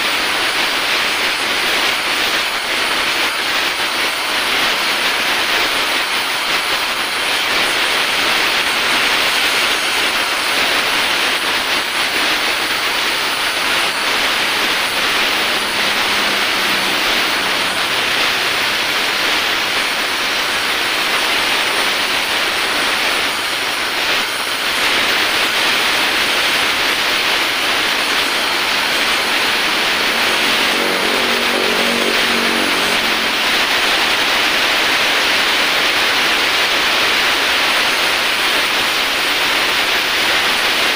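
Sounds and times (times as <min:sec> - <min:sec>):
welding torch hissing: 0:00.0 - 0:40.9.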